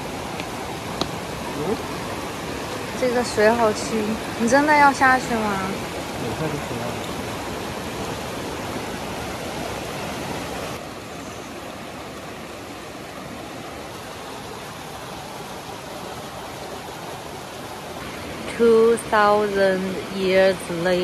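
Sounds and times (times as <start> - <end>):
stream flowing over rocks: 0.0 - 21.0.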